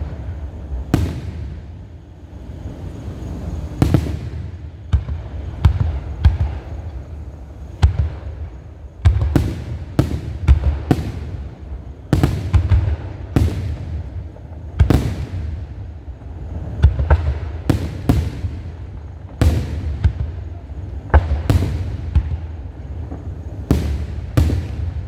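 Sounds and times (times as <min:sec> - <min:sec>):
fireworks bangs with echo: 0:00.0 - 0:25.0
low continuous rumble: 0:00.0 - 0:25.0.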